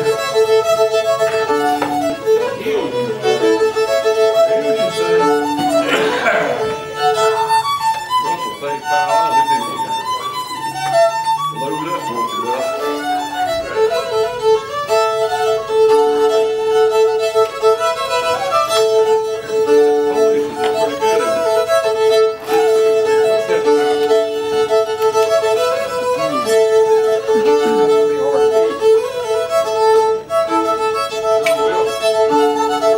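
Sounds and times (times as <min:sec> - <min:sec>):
solo fiddle with drone: 0:00.0 - 0:32.9.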